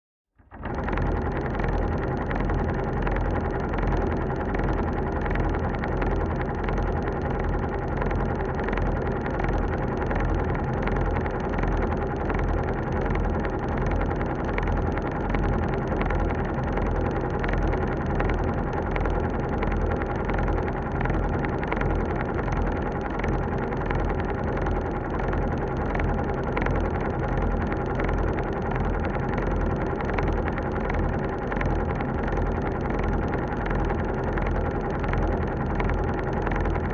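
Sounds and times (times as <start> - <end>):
elevator hum and rumble: 0.4 - 36.9.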